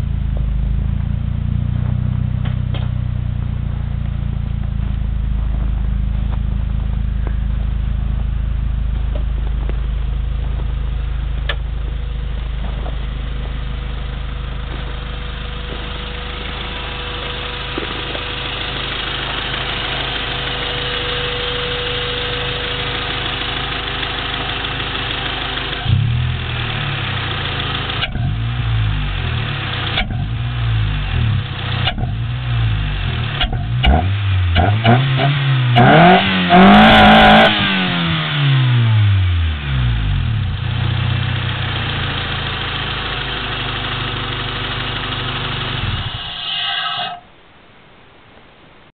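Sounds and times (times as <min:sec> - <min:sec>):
car engine idling and revving: 0:00.0 - 0:47.2.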